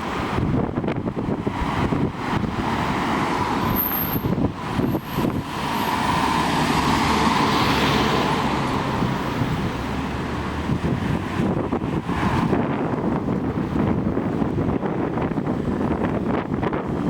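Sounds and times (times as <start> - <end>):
city road traffic: 0.0 - 17.0
wind rumbling on microphone: 0.0 - 17.0
vehicle passing: 1.2 - 16.0.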